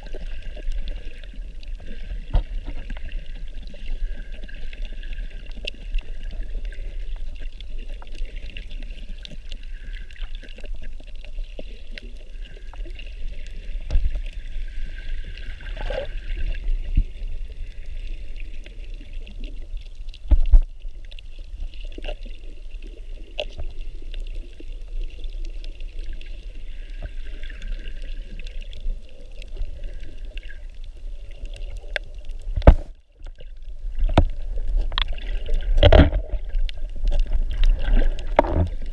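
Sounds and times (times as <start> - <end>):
water sloshing and trickling: 0.0 - 38.9.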